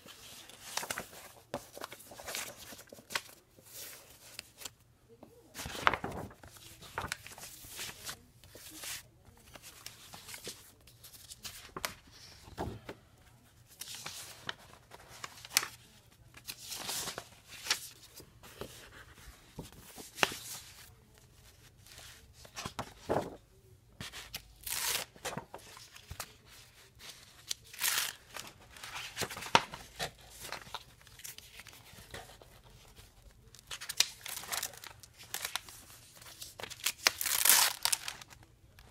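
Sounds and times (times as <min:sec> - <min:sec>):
paper and plastic sleeves rustling: 0:00.0 - 0:38.9.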